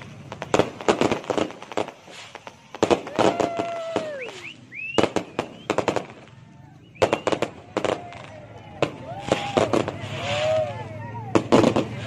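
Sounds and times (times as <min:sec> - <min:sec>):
fireworks crackling bangs: 0:00.0 - 0:12.0
fireworks whistling: 0:00.0 - 0:12.0.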